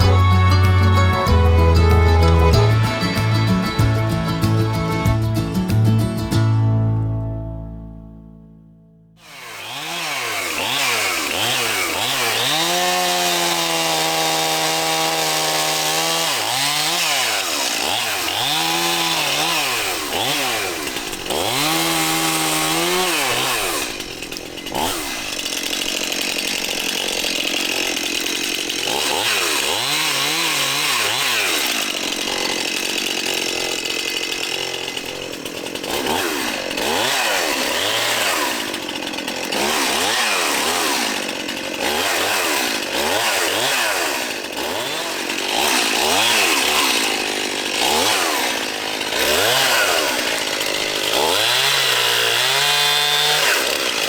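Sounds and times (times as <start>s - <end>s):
chainsaw revving: 0.0s - 6.2s, 9.2s - 54.0s.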